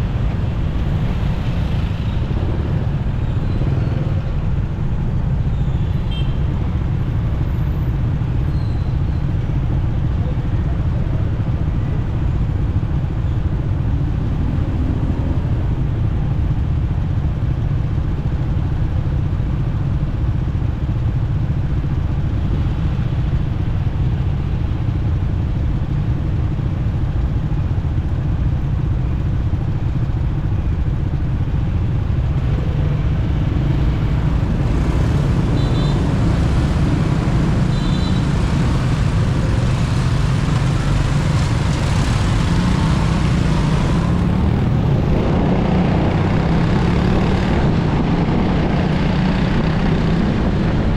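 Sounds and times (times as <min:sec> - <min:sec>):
motorcycle engine rumble: 0:00.0 - 0:49.6
traffic vehicles: 0:00.0 - 0:50.9.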